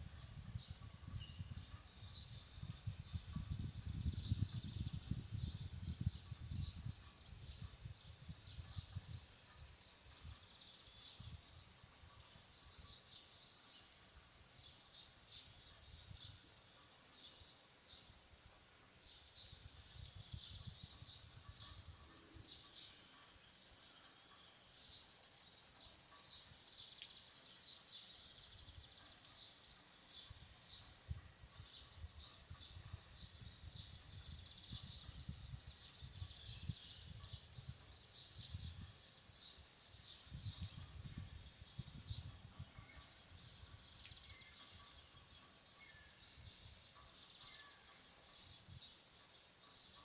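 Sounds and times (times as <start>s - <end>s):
soft rain hiss: 0.0s - 50.0s.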